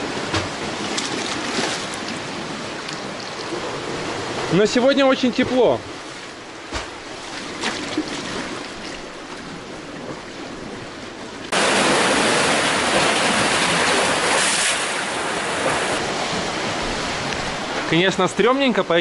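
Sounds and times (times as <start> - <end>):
sea waves washing around rocks: 0.0 - 19.0.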